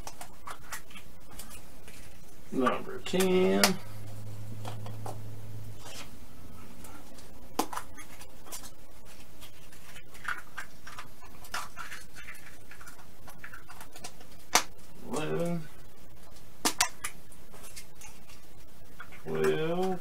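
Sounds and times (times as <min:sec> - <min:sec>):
scratchy plastic rustles: 0:00.0 - 0:20.0.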